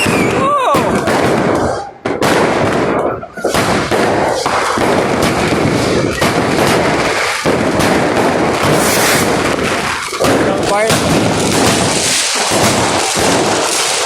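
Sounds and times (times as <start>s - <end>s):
fireworks and firecrackers banging: 0.0s - 14.0s.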